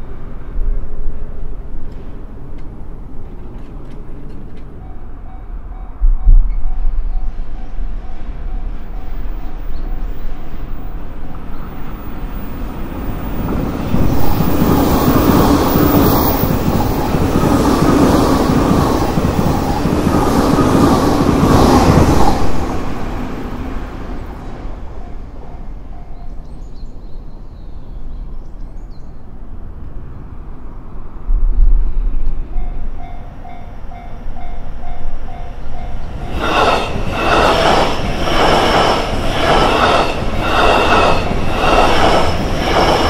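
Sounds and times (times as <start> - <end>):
electric train passing: 0.0 - 26.8, 29.3 - 43.0.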